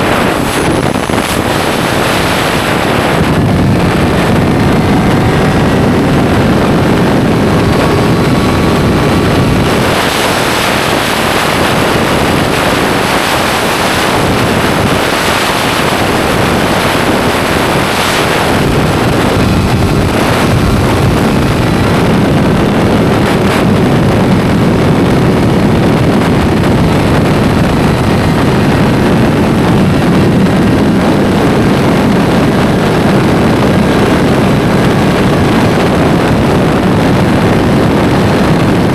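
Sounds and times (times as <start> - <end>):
motorcycle engine roaring: 0.0 - 38.9
wind rushing over microphone: 0.0 - 38.9.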